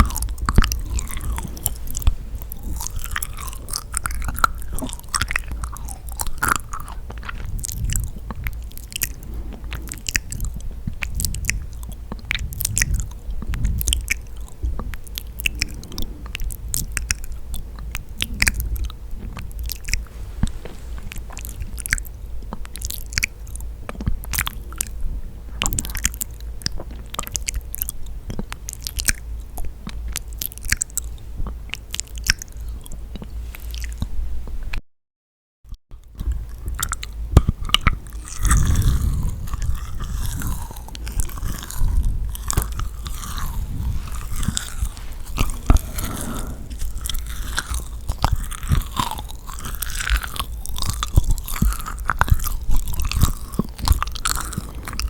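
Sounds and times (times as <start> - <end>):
biting and chewing pastry: 0.0 - 34.1, 35.7 - 55.0
sticky mouth clicks: 0.0 - 34.1, 36.0 - 55.0.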